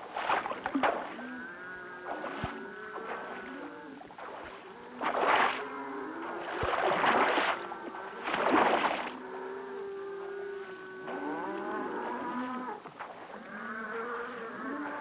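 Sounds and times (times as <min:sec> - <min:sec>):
cattle splashing into water: 0:00.0 - 0:01.4, 0:02.0 - 0:09.6, 0:10.2 - 0:15.0.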